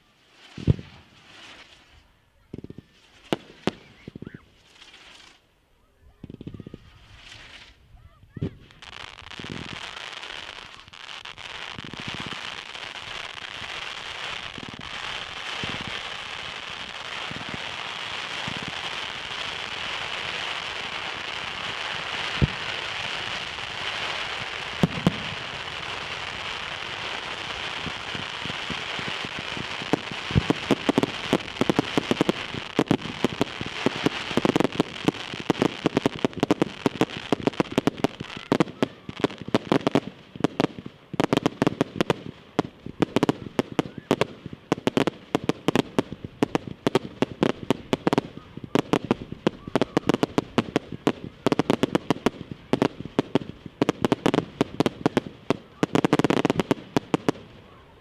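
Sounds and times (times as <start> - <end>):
fireworks bangs and cracks: 0.0 - 5.4, 6.2 - 57.8
fireworks hissing and crackling: 0.0 - 58.0.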